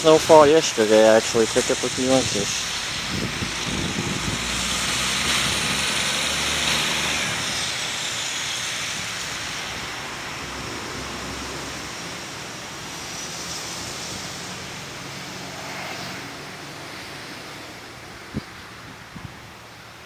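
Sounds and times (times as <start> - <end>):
vehicle passing: 0.0 - 19.1.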